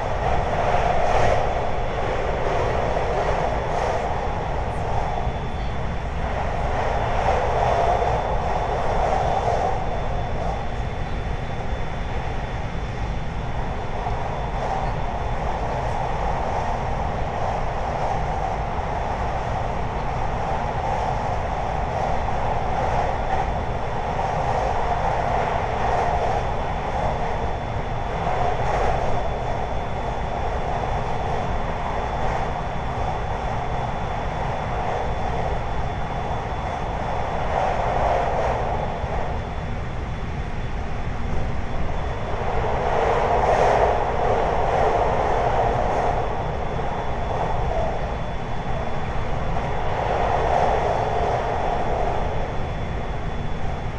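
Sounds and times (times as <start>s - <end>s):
train wheels rumbling on track: 0.0s - 52.9s
faint high whine: 0.0s - 53.9s.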